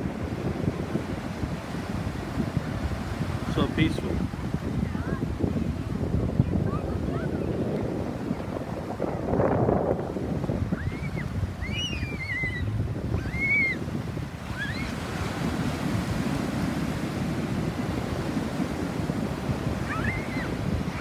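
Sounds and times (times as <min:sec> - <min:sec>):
ocean waves washing: 0:00.0 - 0:21.0
wind: 0:00.0 - 0:21.0.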